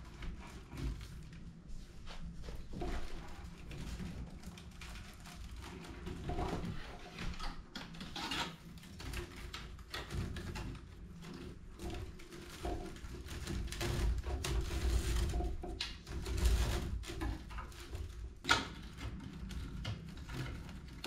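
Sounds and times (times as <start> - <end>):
cane basket clicking and creaking: 2.8 - 21.0.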